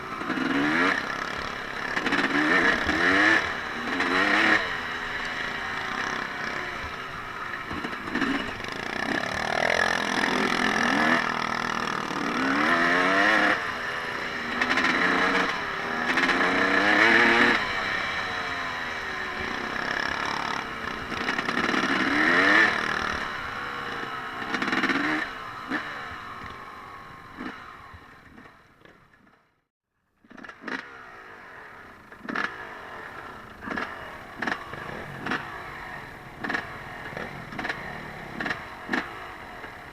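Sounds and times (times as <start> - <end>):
off-road engine revving: 0.0 - 29.0, 30.2 - 39.9.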